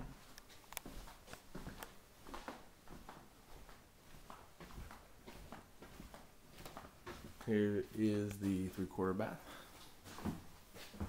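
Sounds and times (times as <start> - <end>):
soft footsteps on carpet: 0.0 - 11.0.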